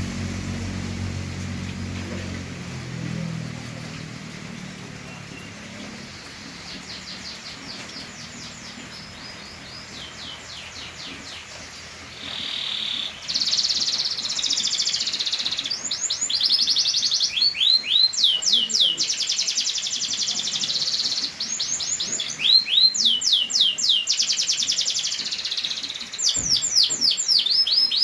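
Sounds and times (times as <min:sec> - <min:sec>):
canary singing: 0:04.0 - 0:28.0.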